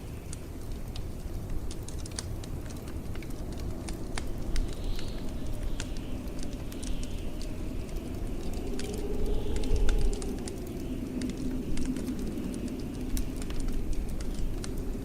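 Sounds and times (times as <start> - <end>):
blizzard wind rumble: 0.0 - 15.0
wood fire crackling: 0.0 - 15.0.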